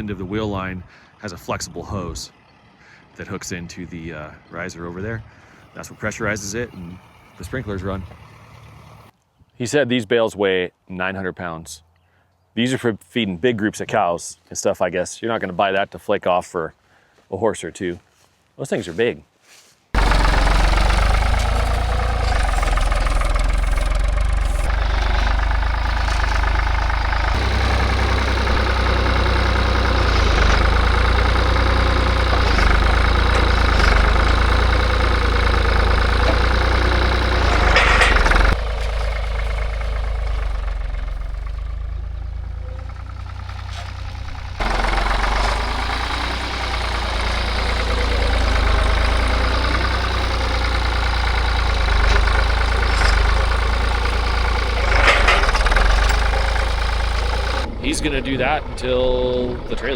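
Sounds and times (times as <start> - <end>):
tractor engine rumbling: 0.0 - 9.2, 20.0 - 59.9.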